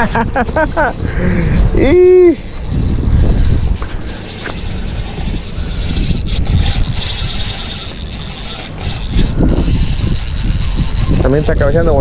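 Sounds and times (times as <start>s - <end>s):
high-pitched insect buzz: 0.0s - 12.0s
wind buffeting microphone: 0.0s - 12.0s.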